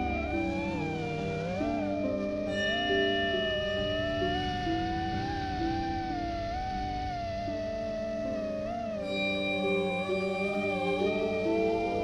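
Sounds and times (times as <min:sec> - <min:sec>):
background music gliding lead: 0:00.0 - 0:12.0.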